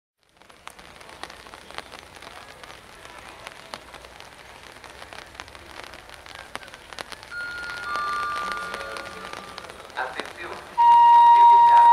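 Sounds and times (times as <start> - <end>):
raindrops ticking close by: 0.2 - 11.9
steady rain falling: 0.2 - 11.9.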